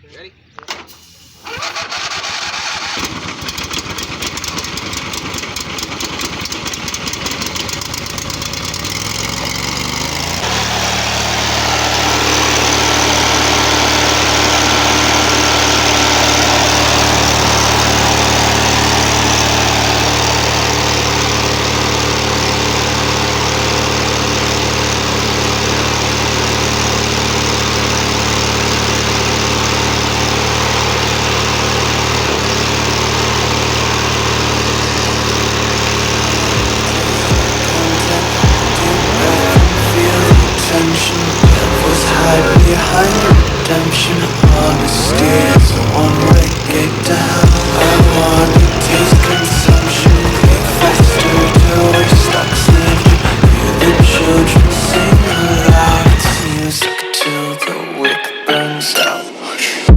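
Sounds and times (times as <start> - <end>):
lawnmower engine running: 0.4 - 56.8.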